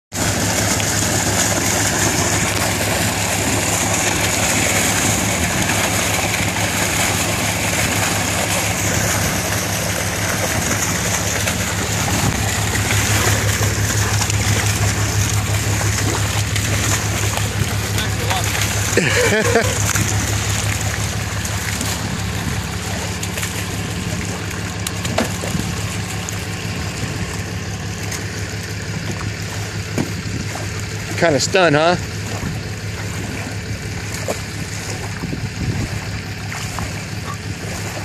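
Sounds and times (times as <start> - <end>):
truck engine humming: 0.1 - 38.0
water gushing and splashing: 0.1 - 38.0.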